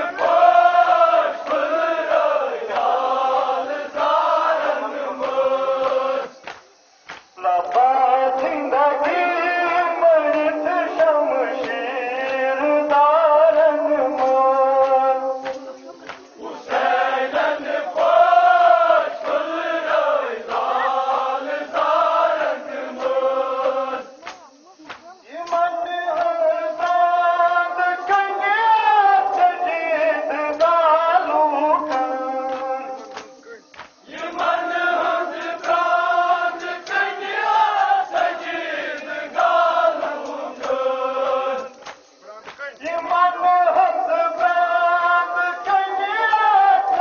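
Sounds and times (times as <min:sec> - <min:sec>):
group of voices chanting a lament: 0:00.0 - 0:47.0.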